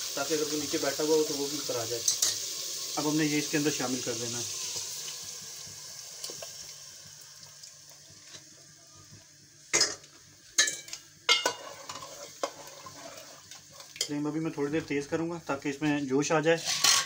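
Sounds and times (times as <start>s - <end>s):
frying sizzle: 0.0s - 17.0s.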